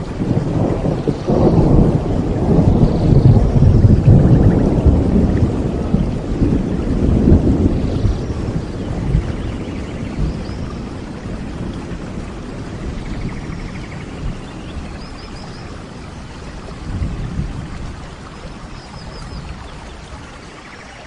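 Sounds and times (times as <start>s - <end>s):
low thunder rumbles: 0.0s - 21.0s
rain falling: 0.0s - 21.0s.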